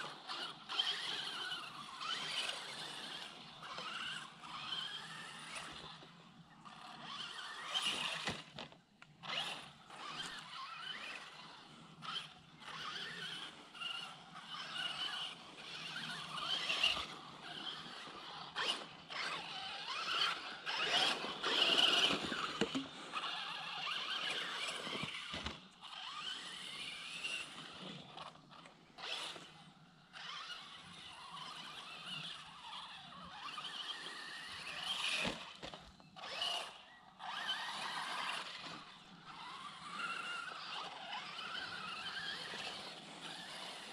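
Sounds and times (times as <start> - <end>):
rc truck motor whining: 0.0 - 43.9.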